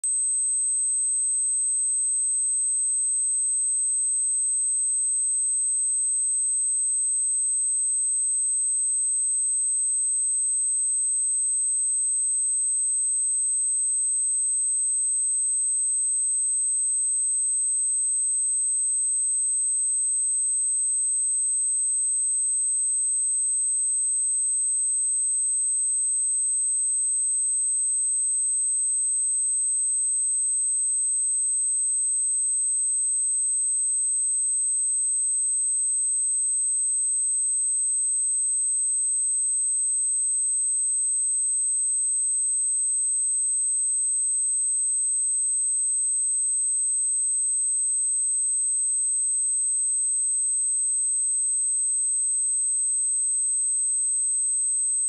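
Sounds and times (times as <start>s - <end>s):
high-pitched sine-wave test tone: 0.0s - 55.0s.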